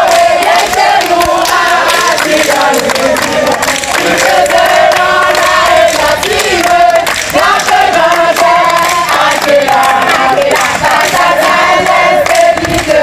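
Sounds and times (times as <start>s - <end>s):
group singing together: 0.0s - 13.0s.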